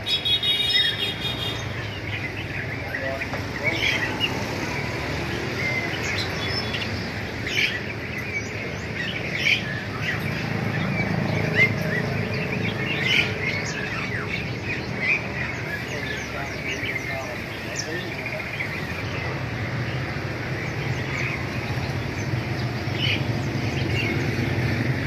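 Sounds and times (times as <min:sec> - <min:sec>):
caged songbirds chirping: 0:00.0 - 0:25.0.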